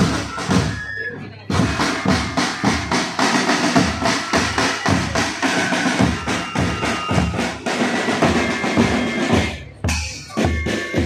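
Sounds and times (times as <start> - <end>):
snare drum strokes: 1.5 - 11.0.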